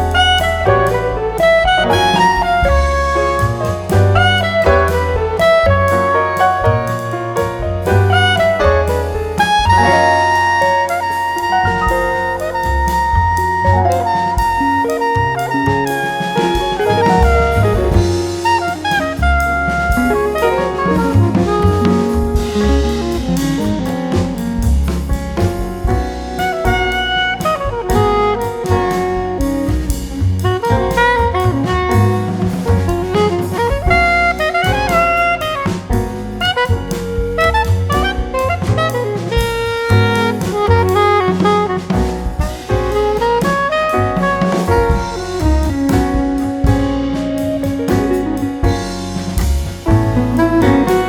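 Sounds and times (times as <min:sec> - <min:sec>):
saxophone melody: 0:00.0 - 0:24.9, 0:25.9 - 0:51.0
bass: 0:00.0 - 0:51.0
drum kit: 0:00.0 - 0:51.0.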